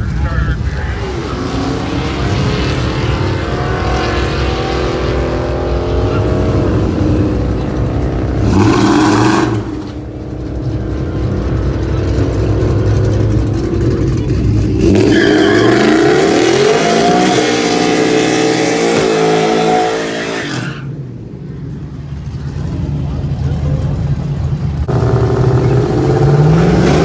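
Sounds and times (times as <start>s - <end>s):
racing engines revving hard: 0.0s - 27.0s.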